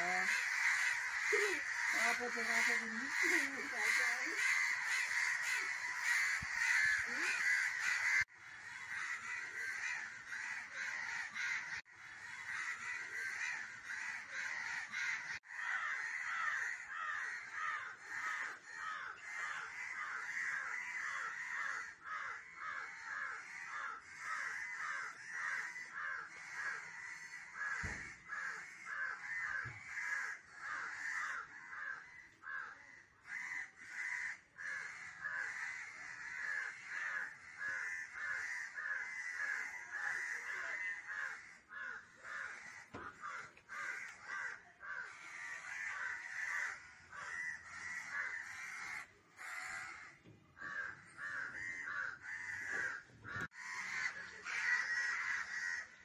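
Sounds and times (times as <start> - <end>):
crow cawing in distress: 0.0 - 56.0.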